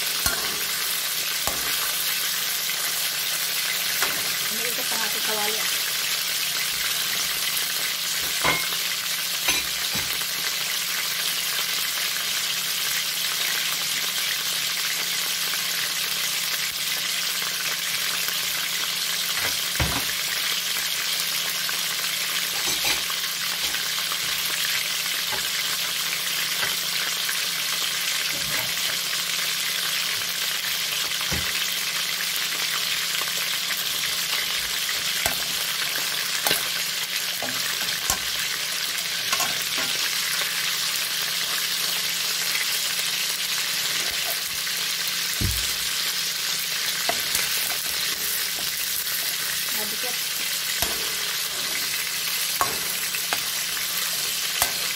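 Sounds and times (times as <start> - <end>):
chicken sizzling in oil: 0.0 - 54.9.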